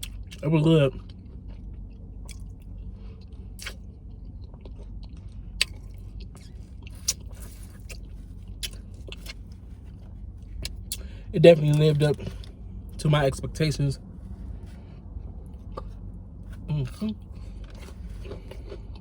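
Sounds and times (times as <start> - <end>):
chewing and mouth smacking: 0.0 - 13.0, 14.3 - 19.0
steady low hum: 0.0 - 19.0.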